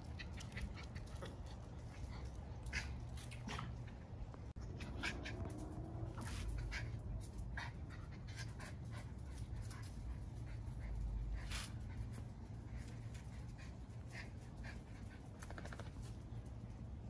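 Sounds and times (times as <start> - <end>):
dog panting: 0.0 - 16.1.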